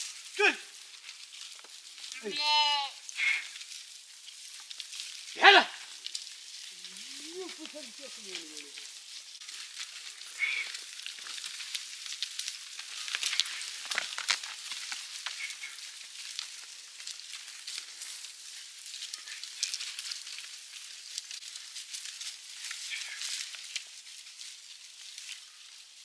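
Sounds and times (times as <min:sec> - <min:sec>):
twigs snapping: 0:00.0 - 0:02.2, 0:03.0 - 0:25.8
dry brush crackling and rustling: 0:00.0 - 0:26.0.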